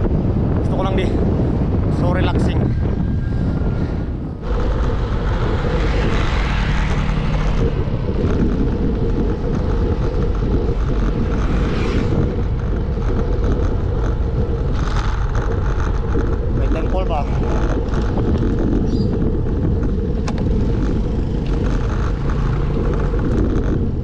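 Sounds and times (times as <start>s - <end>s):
bike tyres rolling on asphalt: 0.0s - 24.0s
wind rushing over microphone: 0.0s - 24.0s.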